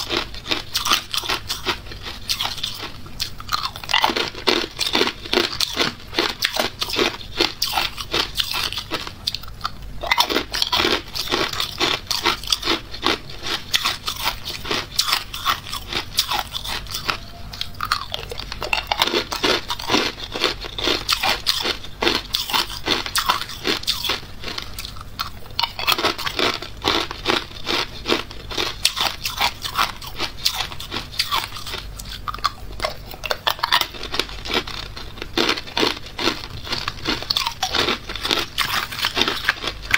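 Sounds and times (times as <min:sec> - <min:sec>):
ice cubes crunched between teeth: 0:00.0 - 0:39.9.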